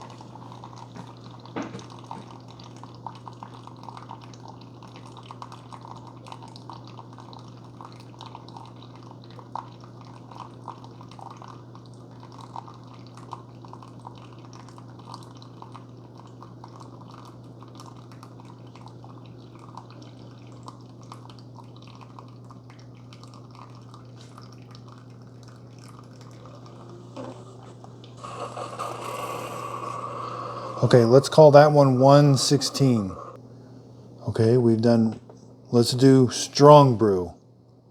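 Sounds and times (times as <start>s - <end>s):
coffee dripping into mug: 0.0s - 33.4s
coffee maker humming: 0.0s - 33.4s.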